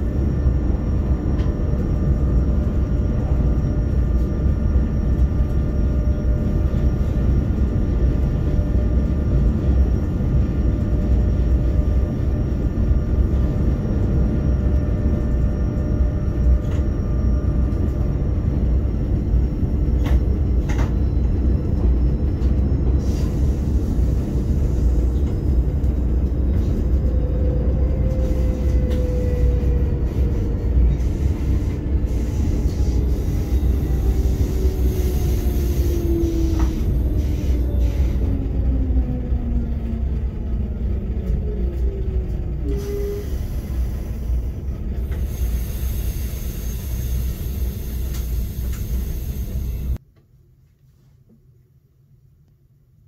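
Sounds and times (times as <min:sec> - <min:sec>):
traction equipment whine: 0:00.0 - 0:50.0
train wheels rumbling on track: 0:00.0 - 0:50.0.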